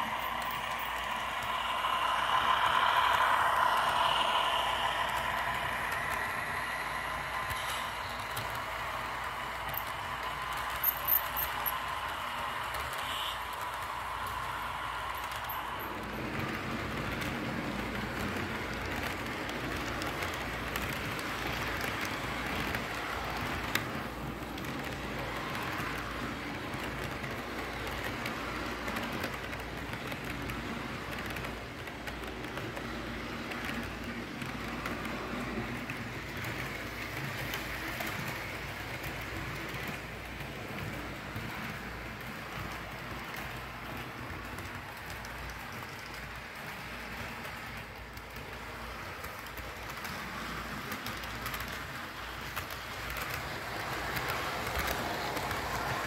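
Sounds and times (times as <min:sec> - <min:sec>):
model train wheels on rails: 0:00.0 - 0:56.0.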